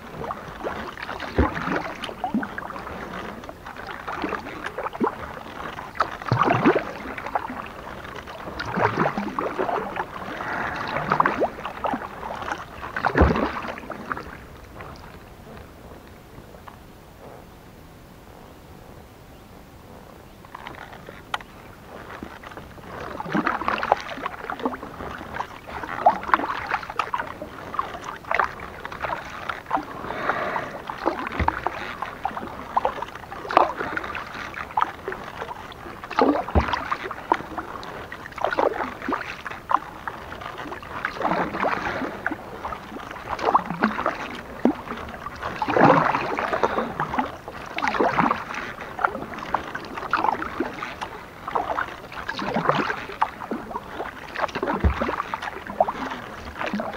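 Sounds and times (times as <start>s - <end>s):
kayak paddle splashing in water: 0.0s - 15.8s, 20.5s - 56.9s
small water clicks: 0.0s - 17.4s, 19.9s - 56.9s.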